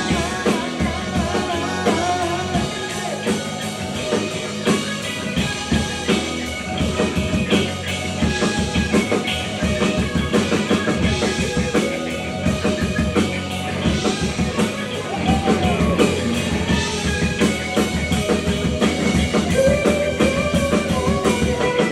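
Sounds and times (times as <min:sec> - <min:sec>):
bending guitar notes: 0:00.0 - 0:21.9
drum kit beat: 0:00.0 - 0:21.9
rock band playing: 0:00.0 - 0:21.9.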